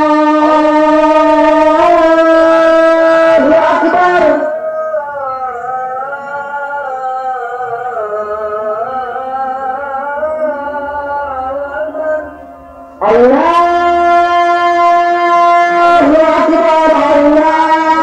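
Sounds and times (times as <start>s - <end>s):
person chanting call to prayer: 0.0s - 18.0s.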